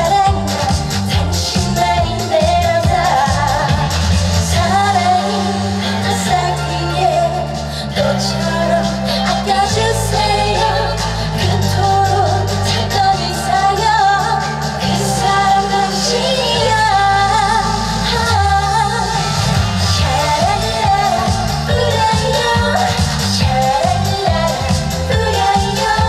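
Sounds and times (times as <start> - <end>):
instrumental accompaniment with bass: 0.0 - 26.0
woman singing with vibrato: 0.0 - 26.0.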